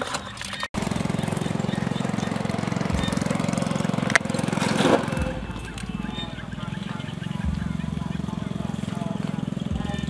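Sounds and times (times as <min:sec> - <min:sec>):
small engine running: 0:00.8 - 0:10.0.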